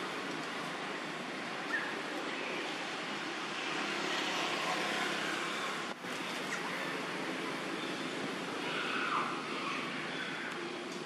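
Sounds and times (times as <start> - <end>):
rushing outdoor background noise: 0.0 - 11.0.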